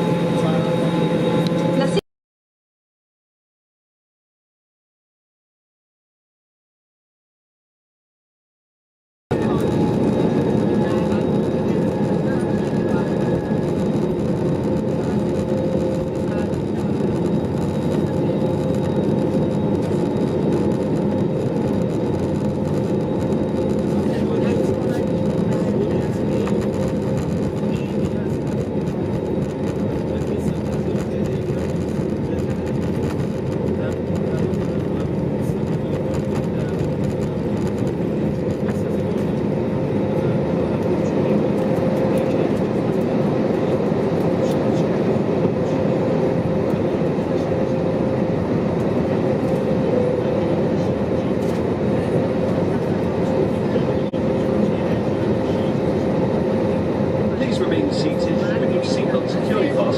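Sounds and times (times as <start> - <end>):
held whine tones: 0.0 - 2.0, 9.4 - 59.9
aircraft cabin hum: 9.4 - 59.9.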